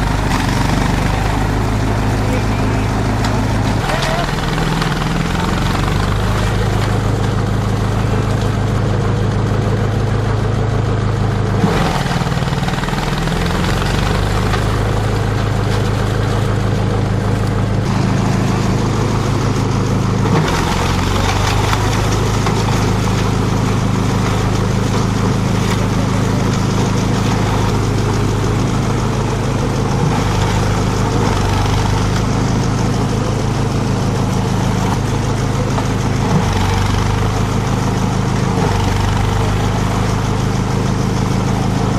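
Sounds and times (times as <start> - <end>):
chopper-shredder machine humming: 0.0 - 41.9.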